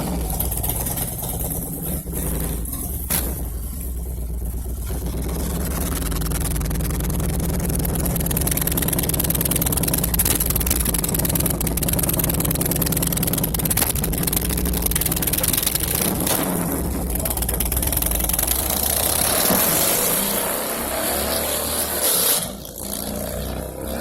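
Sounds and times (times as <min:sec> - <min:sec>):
motorcycle engine running: 0:00.0 - 0:21.5.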